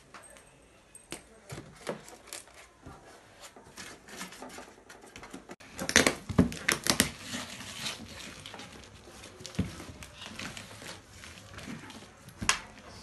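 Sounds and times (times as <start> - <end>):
cardboard packaging rustling: 1.6 - 12.8.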